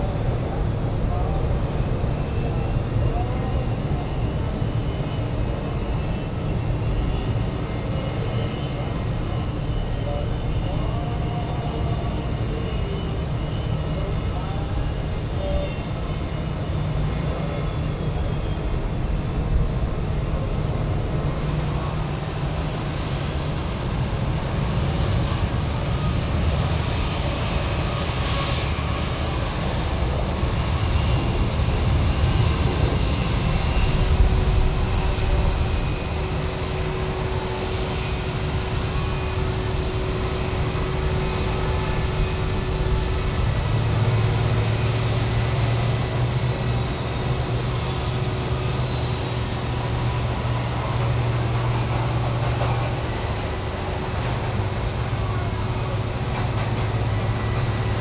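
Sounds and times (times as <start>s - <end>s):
jet engines taxiing: 0.0s - 58.0s.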